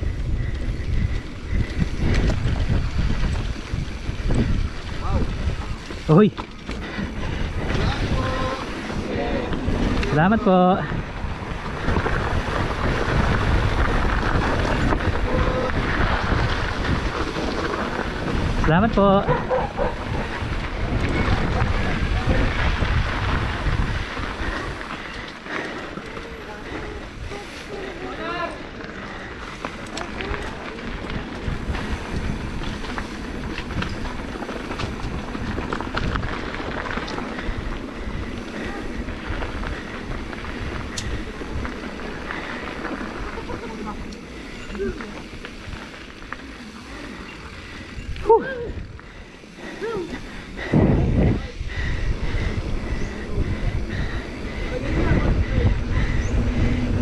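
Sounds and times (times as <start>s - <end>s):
bike rattling: 0.0s - 57.0s
bike tyres rolling on dirt: 0.0s - 57.0s
wind buffeting microphone: 0.0s - 57.0s.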